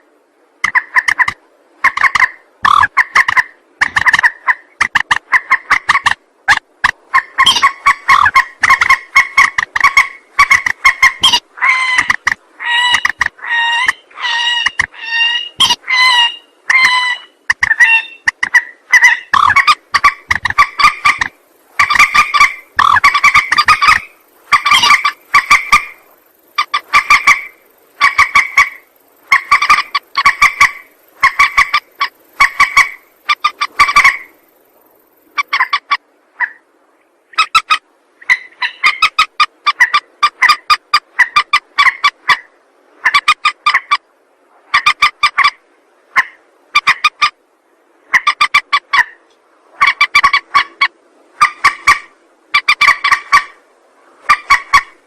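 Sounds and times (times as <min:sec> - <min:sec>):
bird clucking chattering calls: 0:00.6 - 0:36.6, 0:37.4 - 0:44.0, 0:48.1 - 0:49.2, 0:49.8 - 0:53.6, 0:54.2 - 0:55.0.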